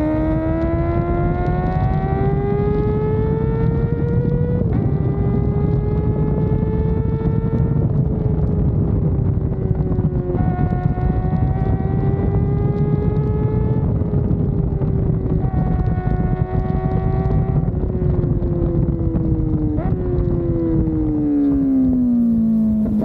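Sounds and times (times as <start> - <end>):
motorcycle engine at high revs: 0.0 - 23.0
wind rushing on microphone: 0.0 - 23.0.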